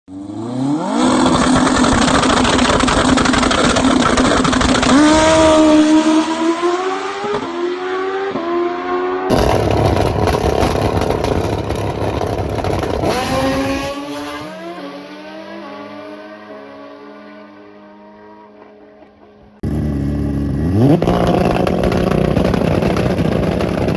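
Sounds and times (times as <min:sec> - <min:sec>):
motorcycle engine at full throttle: 0:00.1 - 0:23.9.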